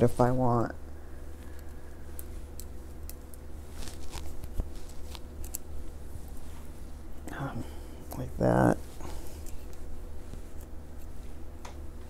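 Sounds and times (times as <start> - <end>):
steady low hum: 0.0 - 12.0
clothing rustling and clicking: 1.3 - 7.2, 8.1 - 12.0.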